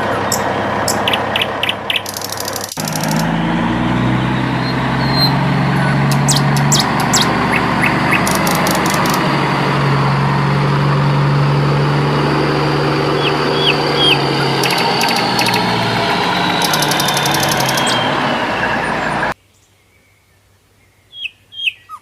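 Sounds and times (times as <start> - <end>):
bird chirps: 0.0 - 9.4, 12.6 - 22.0
vehicle engine humming: 0.0 - 19.4.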